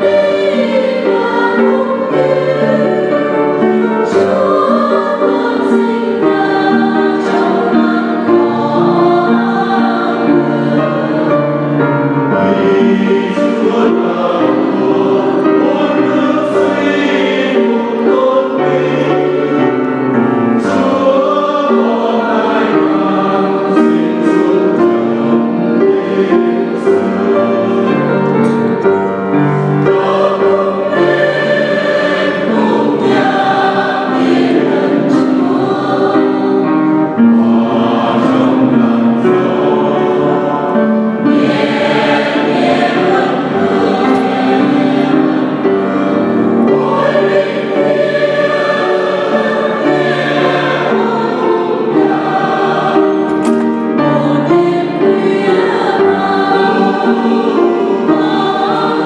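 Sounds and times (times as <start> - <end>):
choir singing in harmony: 0.0 - 59.0
grand piano: 0.0 - 59.0.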